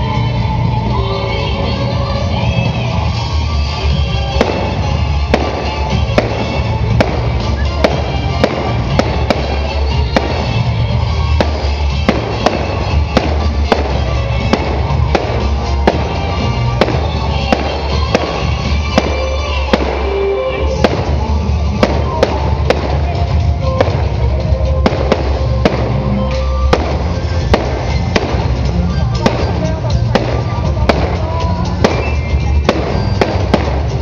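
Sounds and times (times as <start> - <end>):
fireworks bursting with sharp bangs: 1.6 - 34.0
loud music with heavy bass: 2.4 - 34.0.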